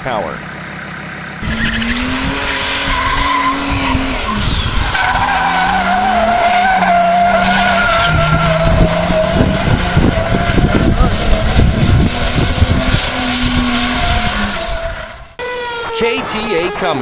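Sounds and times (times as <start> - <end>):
diesel car engine revving: 0.0 - 17.0
tyres squealing on pavement: 0.8 - 17.0.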